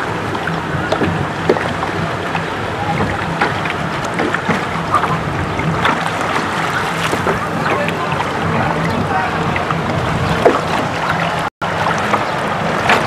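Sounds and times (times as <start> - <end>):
sharp splashes: 0.0 - 13.0
water rushing along boat hull: 0.0 - 13.0.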